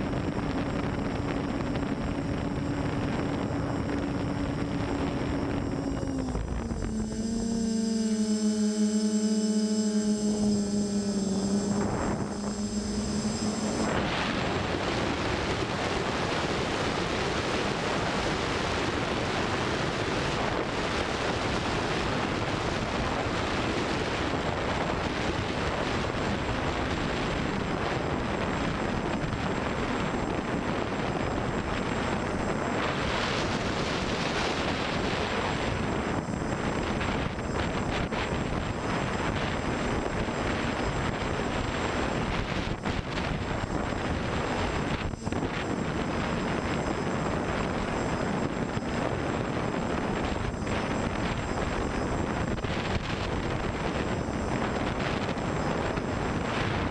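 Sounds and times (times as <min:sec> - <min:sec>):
drone motors and propellers: 0:00.0 - 0:56.9.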